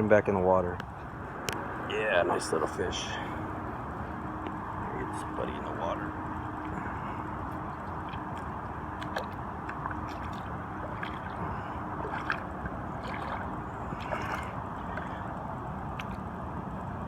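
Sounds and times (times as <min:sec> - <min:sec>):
water sloshing and splashing: 0:00.8 - 0:17.0.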